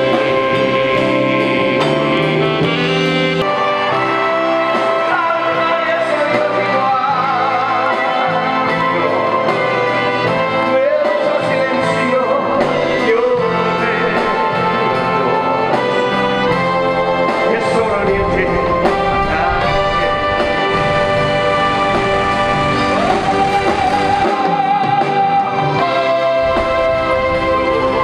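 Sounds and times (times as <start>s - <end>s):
song with brass and orchestra: 0.0s - 28.0s.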